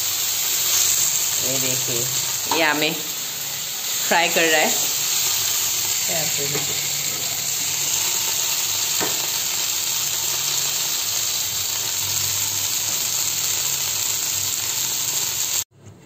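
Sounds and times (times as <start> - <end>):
fish sizzling in hot oil: 0.0 - 15.7.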